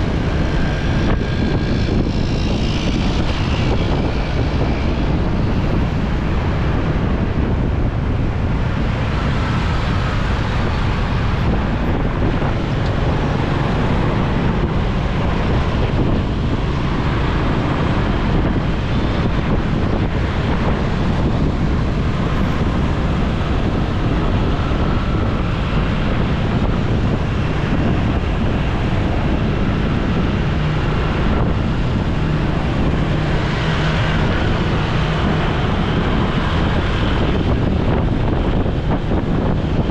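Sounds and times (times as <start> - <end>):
road and traffic noise: 0.0 - 39.9
wind rushing over microphone: 0.0 - 39.9.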